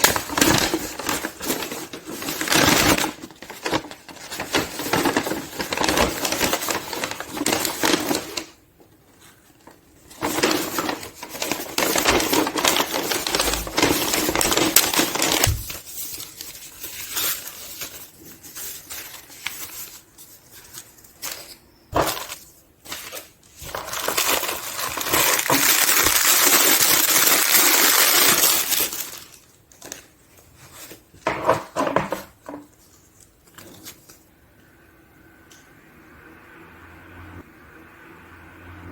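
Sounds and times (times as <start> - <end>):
packaging rustling and crinkling: 0.0 - 8.6, 9.2 - 34.3.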